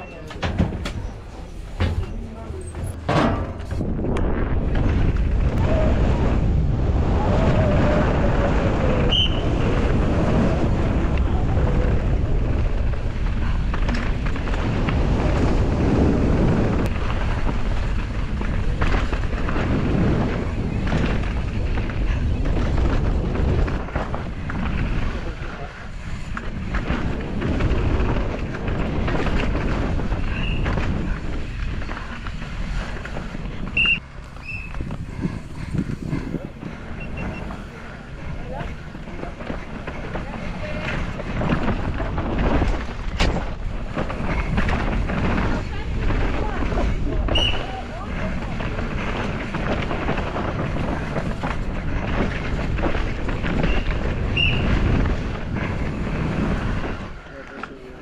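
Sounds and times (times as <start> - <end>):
bike rumble and rattle: 0.0 - 58.0
wind rushing over microphone: 0.0 - 58.0.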